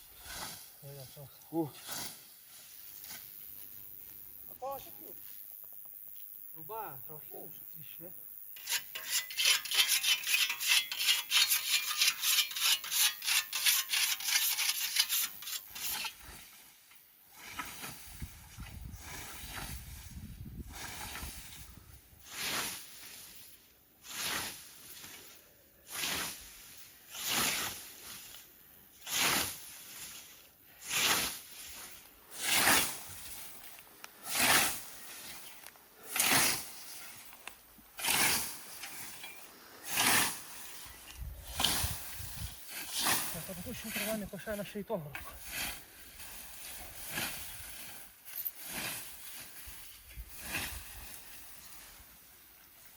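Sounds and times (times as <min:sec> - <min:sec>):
hand tool scraping: 0:08.5 - 0:20.2, 0:20.8 - 0:52.9.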